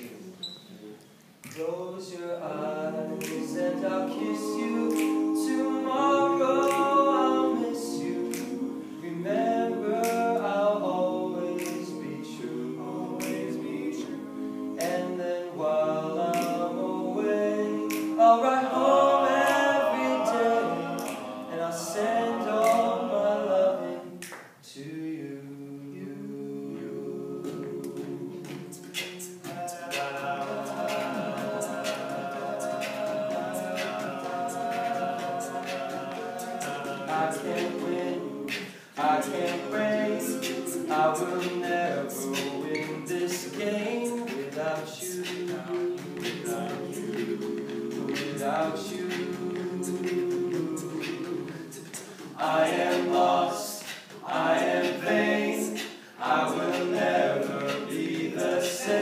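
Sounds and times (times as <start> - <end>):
male group singing a cappella: 1.5 - 59.0
sharp clicks keeping the beat: 3.0 - 8.6, 9.2 - 15.4, 16.2 - 22.0, 27.4 - 59.0.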